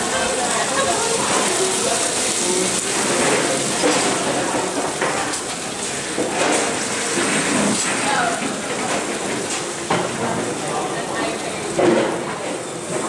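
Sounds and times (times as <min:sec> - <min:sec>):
sauce sizzling in a wok: 0:00.0 - 0:12.8.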